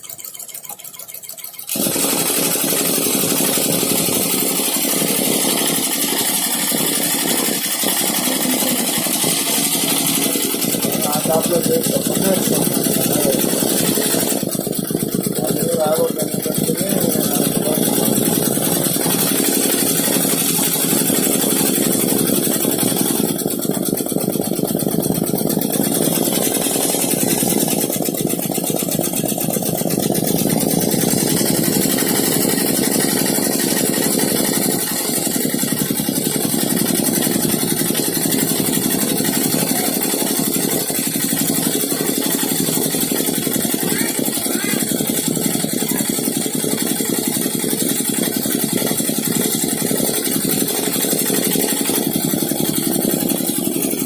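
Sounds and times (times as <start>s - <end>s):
embroidery machine stitching: 0.0s - 54.0s.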